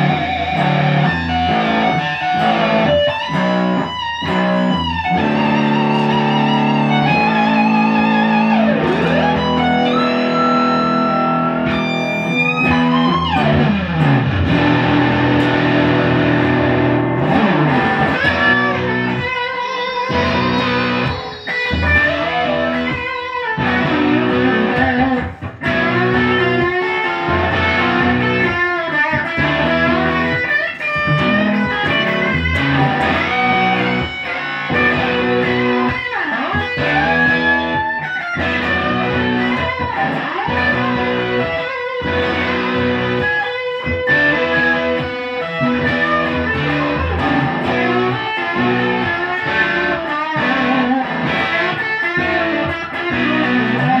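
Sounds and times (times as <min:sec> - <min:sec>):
electric guitars playing: 0:00.0 - 0:54.0.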